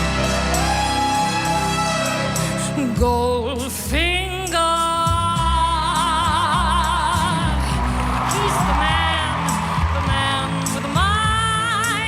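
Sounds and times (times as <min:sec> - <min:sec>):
low musical accompaniment: 0:00.0 - 0:12.0
person singing with vibrato: 0:00.0 - 0:12.0.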